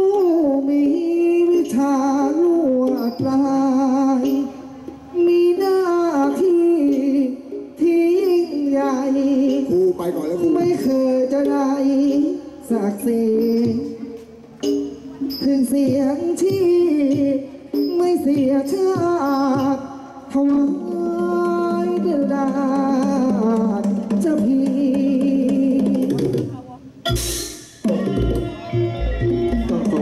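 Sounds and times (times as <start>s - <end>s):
person singing into microphone: 0.0s - 14.3s, 15.2s - 26.5s, 27.9s - 30.0s.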